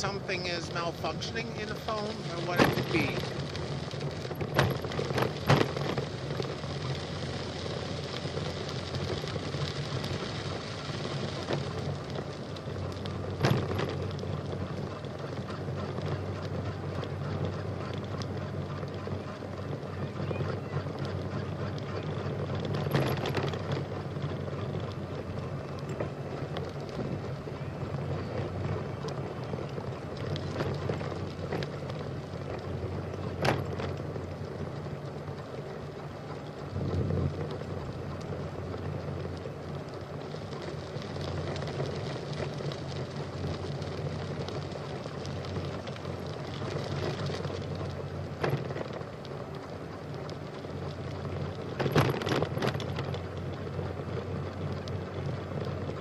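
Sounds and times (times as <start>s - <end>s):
bicycle tyres rumbling: 0.0s - 56.0s
bicycle knocks and rattles: 1.9s - 6.9s, 11.3s - 56.0s.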